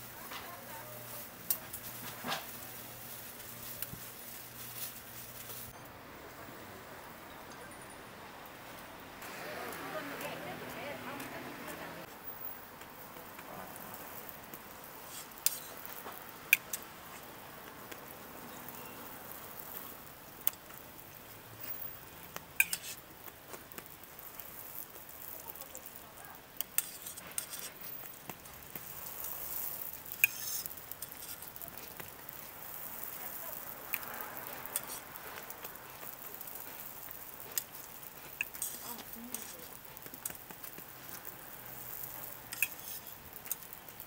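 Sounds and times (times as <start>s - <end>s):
food sizzling on griddle: 0.0s - 5.8s, 8.6s - 44.0s.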